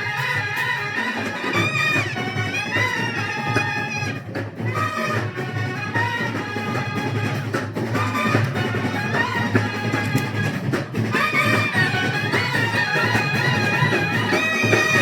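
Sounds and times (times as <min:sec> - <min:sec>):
wind instruments melody: 0:00.0 - 0:15.0.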